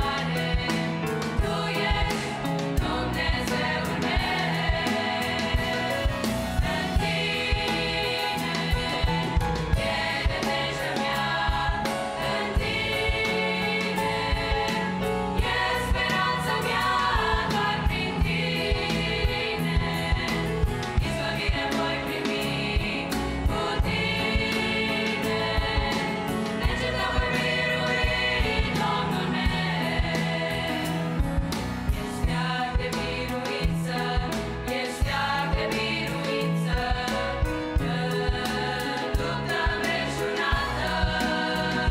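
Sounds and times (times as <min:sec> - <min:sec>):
girls choir singing a hymn: 0:00.0 - 0:31.2, 0:32.2 - 0:41.9
piano accompaniment: 0:00.0 - 0:41.9.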